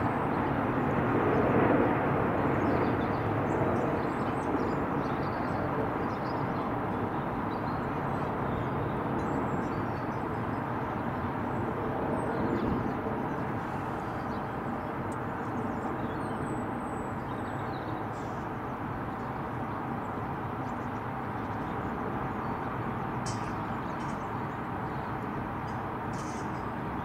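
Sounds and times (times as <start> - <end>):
jet engine rumble: 0.0 - 27.0.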